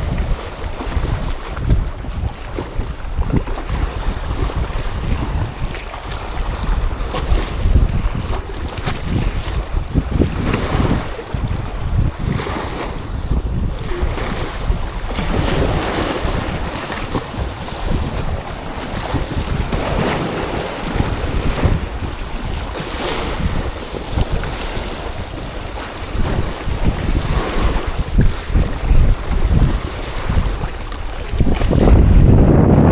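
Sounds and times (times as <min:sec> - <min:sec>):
sea waves washing: 0:00.0 - 0:32.9
wind buffeting microphone: 0:00.0 - 0:32.9.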